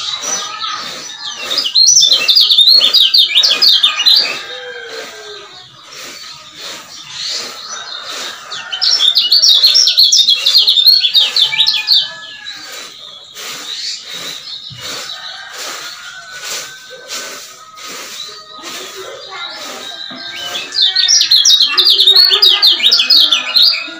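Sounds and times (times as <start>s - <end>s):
bird chirps: 0.0s - 23.9s
bird twittering song: 0.0s - 23.9s.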